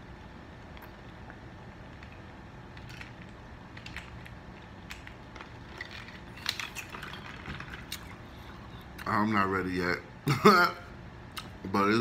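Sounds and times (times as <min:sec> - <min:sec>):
faint low room hum: 0:00.0 - 0:12.0.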